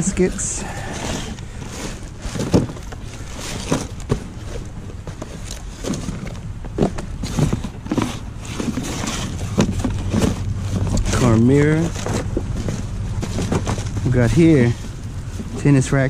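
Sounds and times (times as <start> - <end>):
cardboard and plastic bags rustling: 0.0 - 16.0.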